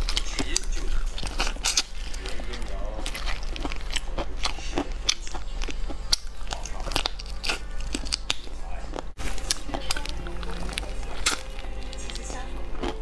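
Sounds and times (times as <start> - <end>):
crunchy chewing of fried chicken: 0.0 - 13.0.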